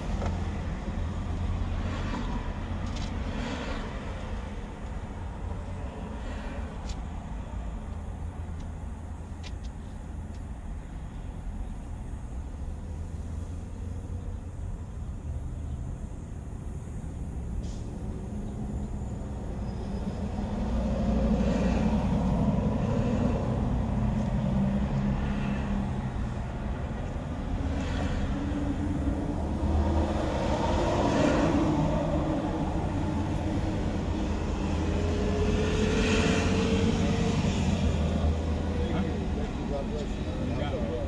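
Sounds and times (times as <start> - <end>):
low traffic rumble: 0.0 - 41.0
vehicles passing: 0.0 - 41.0.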